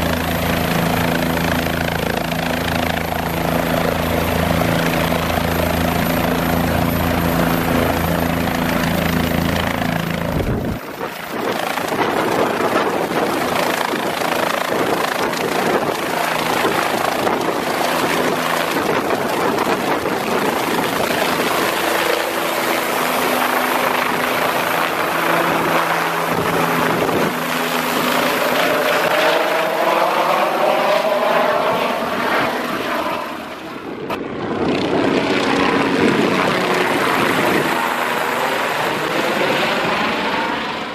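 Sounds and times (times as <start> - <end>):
helicopter engine and rotor: 0.0 - 40.9.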